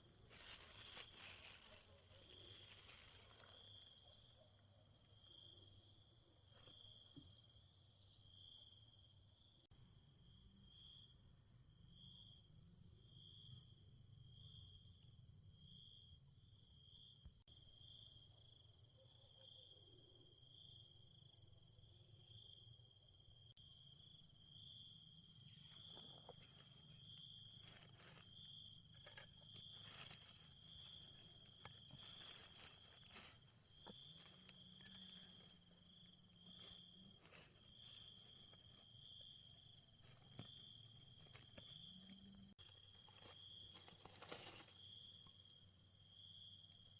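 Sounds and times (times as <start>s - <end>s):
insect chorus trilling and chirping: 0.0s - 46.9s.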